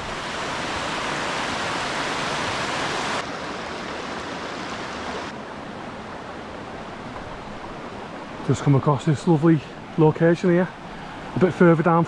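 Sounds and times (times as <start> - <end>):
waterfall rushing: 0.0 - 10.0
stream tumbling over boulders: 0.0 - 10.6.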